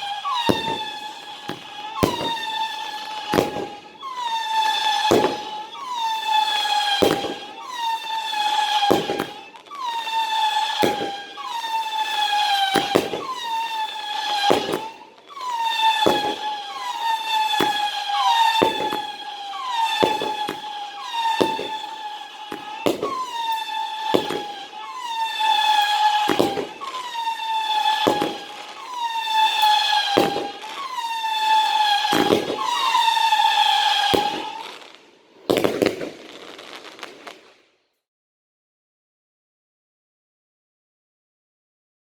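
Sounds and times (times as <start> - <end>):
firework high whistle: 0.0 - 37.5
firework sharp cracks: 0.0 - 37.7.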